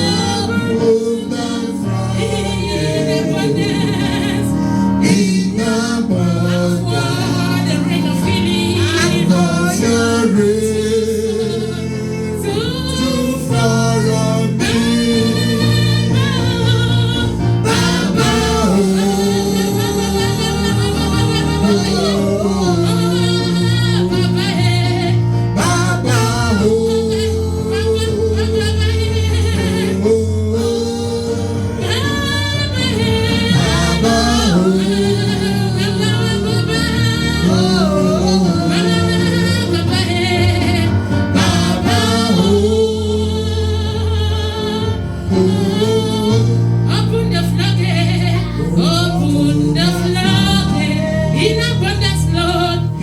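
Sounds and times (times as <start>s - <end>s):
sustained instrumental chords and bass: 0.0s - 53.0s.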